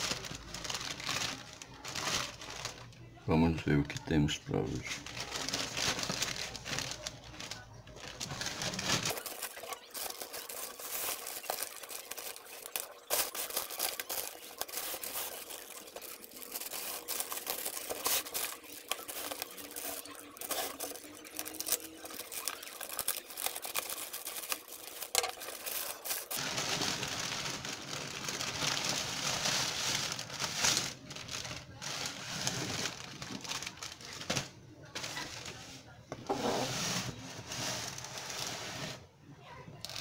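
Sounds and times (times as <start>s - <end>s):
plastic mailer bag crinkling: 0.0s - 35.6s.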